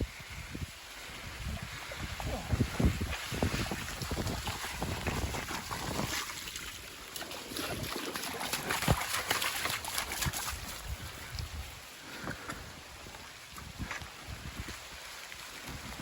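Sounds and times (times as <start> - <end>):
wind buffeting microphone: 0.0 - 6.7, 7.7 - 15.0.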